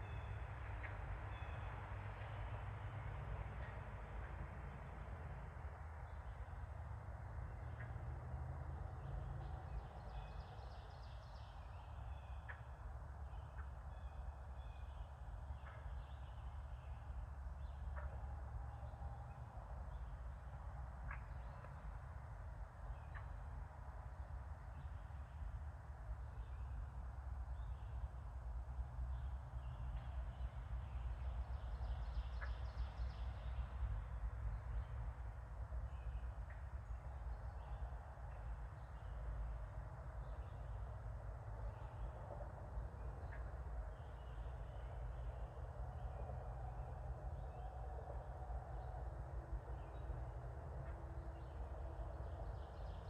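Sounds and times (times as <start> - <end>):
steady low rumble: 8.6 - 53.0.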